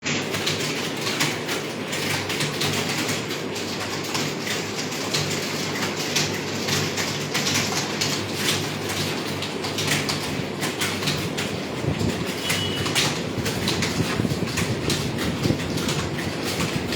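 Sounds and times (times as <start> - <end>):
computer keyboard typing: 0.2 - 16.9.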